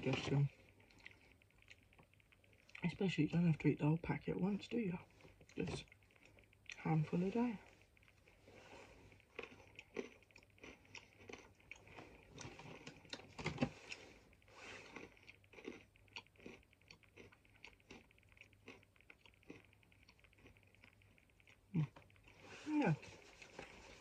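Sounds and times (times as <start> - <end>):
crisps crunching while chewing: 0.0 - 24.0.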